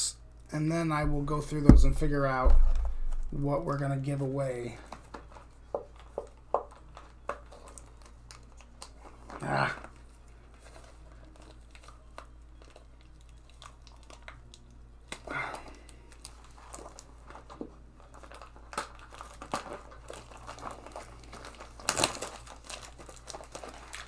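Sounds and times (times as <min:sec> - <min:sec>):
plastic shrink wrap crinkling: 0:04.0 - 0:24.0.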